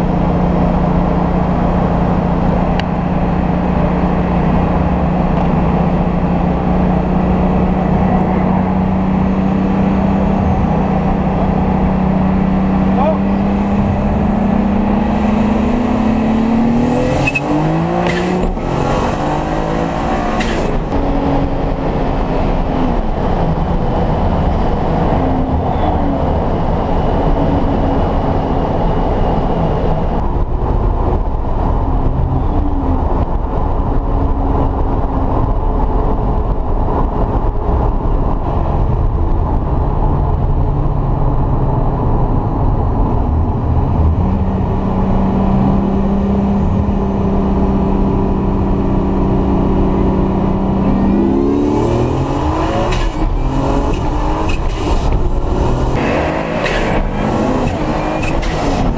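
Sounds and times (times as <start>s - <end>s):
car engine accelerating: 0.0s - 58.9s.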